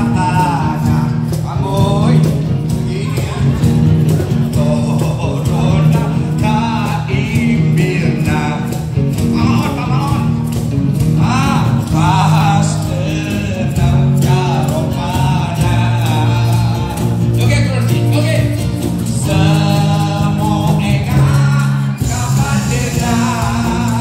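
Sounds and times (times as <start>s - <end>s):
band playing: 0.0s - 24.0s
man singing: 0.0s - 24.0s
steady bass notes: 0.0s - 24.0s.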